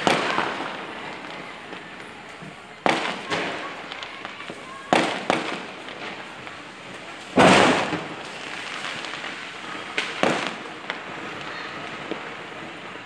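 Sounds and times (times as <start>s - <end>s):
firework bang: 0.0s - 12.4s
background noise: 0.0s - 13.0s
firework cracks: 0.0s - 13.0s.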